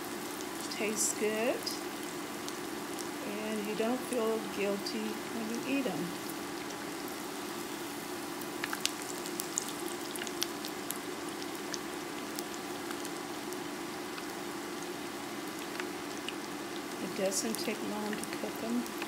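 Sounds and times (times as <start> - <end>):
patties sizzling in oil: 0.0 - 19.0.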